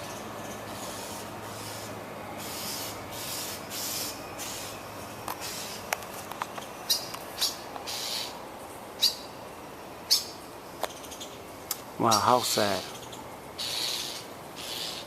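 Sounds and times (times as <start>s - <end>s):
blackbird alarm calls: 0.0s - 5.9s, 6.5s - 9.4s, 10.0s - 15.0s.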